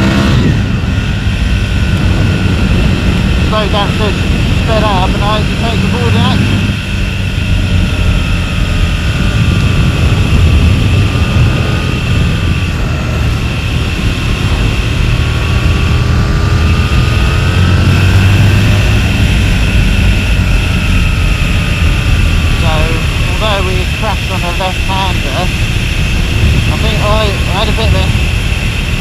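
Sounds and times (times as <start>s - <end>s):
motorcycle engine running: 0.0s - 29.0s
wind noise rumble: 0.0s - 29.0s.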